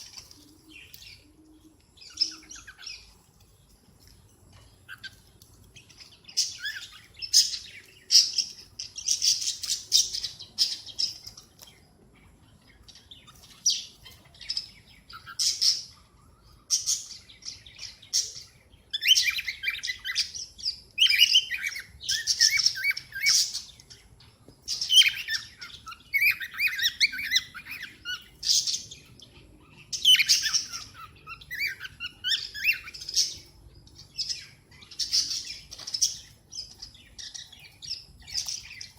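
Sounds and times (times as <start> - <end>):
cockatiels chirping: 2.0 - 3.2, 4.8 - 5.2, 5.8 - 11.7, 12.6 - 38.9.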